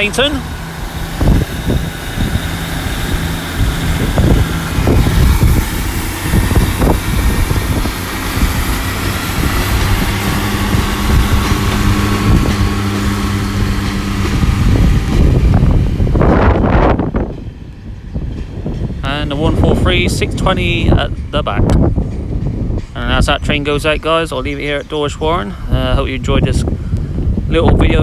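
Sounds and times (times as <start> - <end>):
diesel train engines droning: 0.0 - 28.0
wheel and track noise: 0.0 - 28.0.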